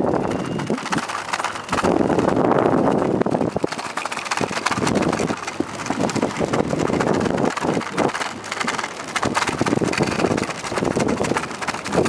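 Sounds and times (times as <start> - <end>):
bicycle rattling over wooden planks: 0.0 - 12.0
wind on microphone: 0.0 - 12.0.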